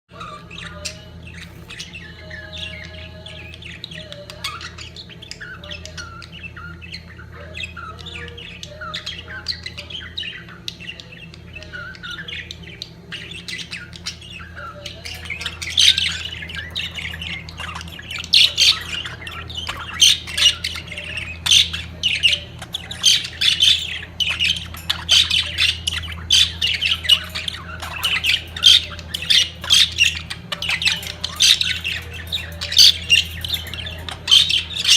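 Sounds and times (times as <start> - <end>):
budgerigars chattering and squawking: 0.1 - 34.9.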